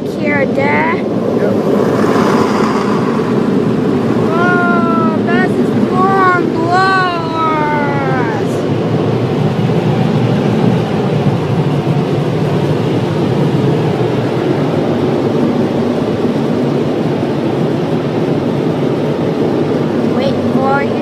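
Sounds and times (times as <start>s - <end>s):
car wash air dryers roaring: 0.0s - 21.0s.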